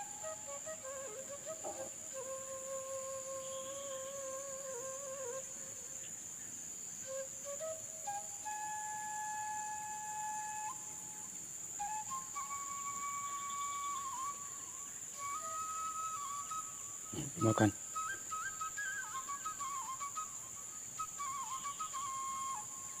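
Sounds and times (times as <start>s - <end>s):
slow flute-like melody: 0.0s - 6.0s, 7.0s - 23.0s
high-pitched insect drone: 0.0s - 23.0s.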